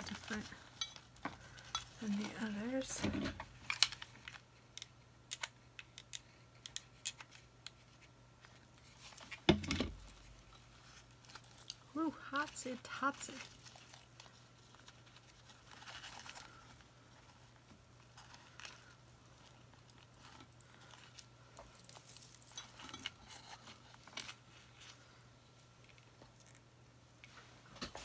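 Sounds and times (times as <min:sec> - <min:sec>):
soft rustling of craft materials: 0:00.0 - 0:28.0.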